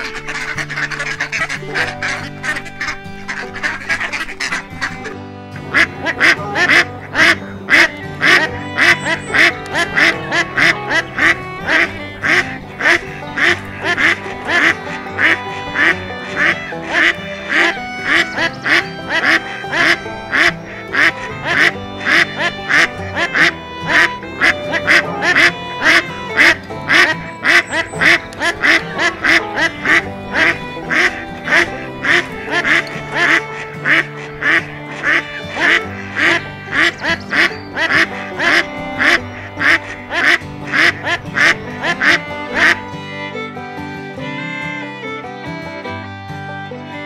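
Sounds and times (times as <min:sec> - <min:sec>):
duck quacking: 0:00.0 - 0:43.6
background music: 0:00.0 - 0:47.0.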